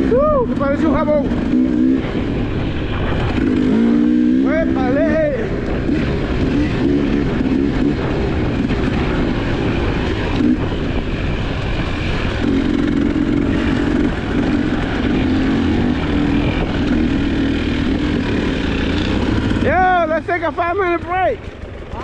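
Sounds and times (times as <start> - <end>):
constant low rumble: 0.0 - 22.0
dirt bike engine revving: 0.0 - 22.0.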